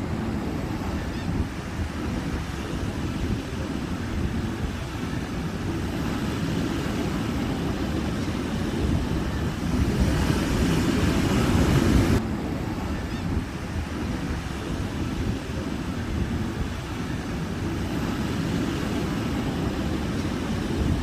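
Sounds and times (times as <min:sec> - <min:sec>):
ocean surf washing ashore: 0:00.0 - 0:21.0
wind buffeting microphone: 0:00.0 - 0:21.0.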